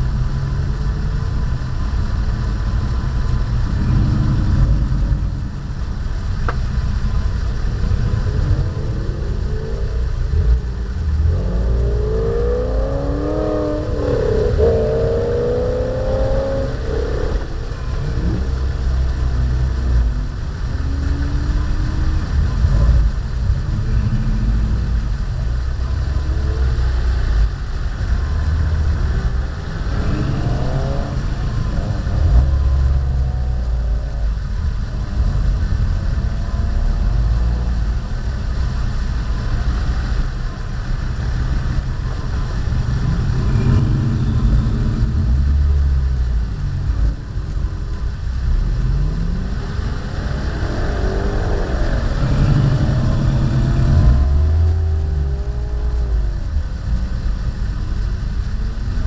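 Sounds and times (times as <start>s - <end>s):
car engines revving: 0.0s - 59.0s
heavy low rumble: 0.0s - 59.0s.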